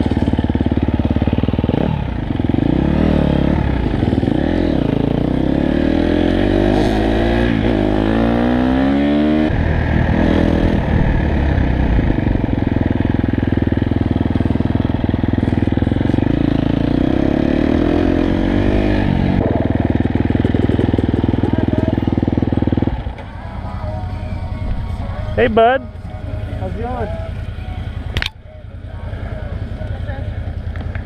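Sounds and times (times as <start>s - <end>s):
dirt bike engine accelerating: 0.0s - 31.0s.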